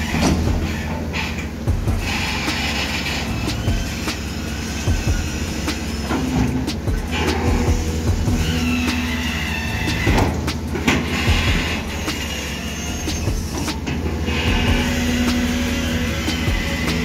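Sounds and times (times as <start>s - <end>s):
excavator diesel engine: 0.0s - 17.0s
hydraulic whine: 0.0s - 17.0s.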